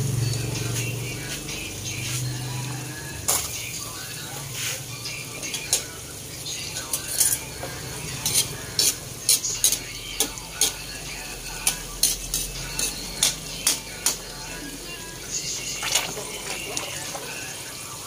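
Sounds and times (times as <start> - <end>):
food deep frying in oil: 0.0 - 18.0.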